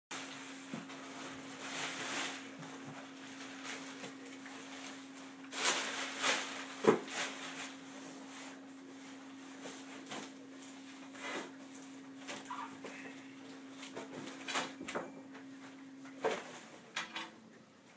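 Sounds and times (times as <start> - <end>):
plastic wrap rustling: 0.1 - 14.8
steady low hum: 0.2 - 17.9.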